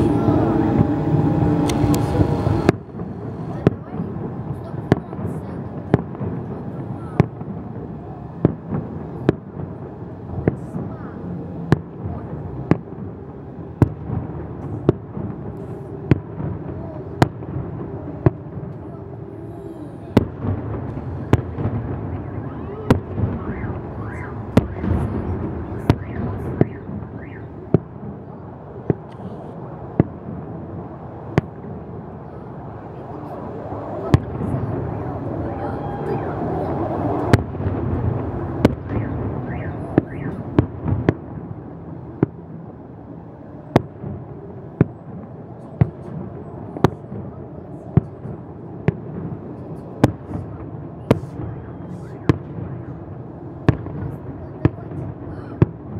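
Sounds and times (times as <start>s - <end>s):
firework bangs: 0.0s - 19.4s, 20.0s - 29.2s, 32.8s - 42.8s, 43.7s - 55.9s
rumble of distant fireworks: 0.0s - 55.9s
steady background rush: 0.0s - 55.9s.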